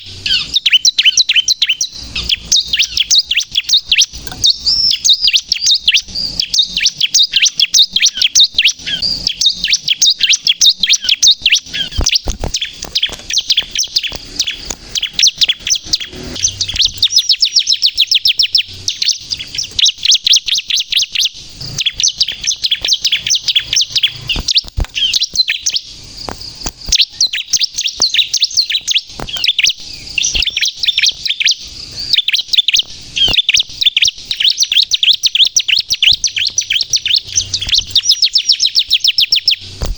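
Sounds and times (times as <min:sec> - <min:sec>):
bird singing high-pitched chirps: 0:00.0 - 0:39.9.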